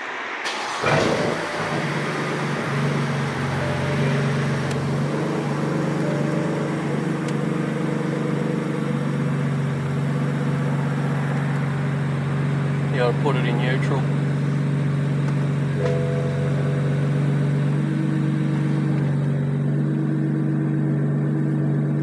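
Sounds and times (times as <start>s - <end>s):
car engine starting and idling: 0.0s - 22.0s.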